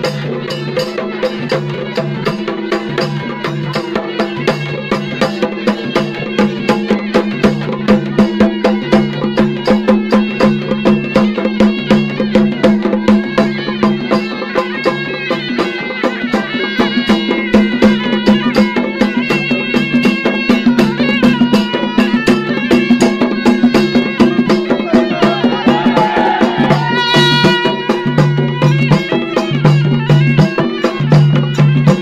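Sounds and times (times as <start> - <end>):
high-pitched wavering melody: 0.0 - 32.0
rapid drumbeats: 0.0 - 32.0.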